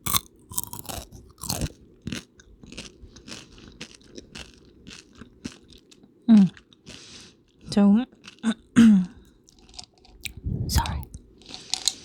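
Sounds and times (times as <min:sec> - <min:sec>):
crunching and chewing candy: 0:00.0 - 0:12.0.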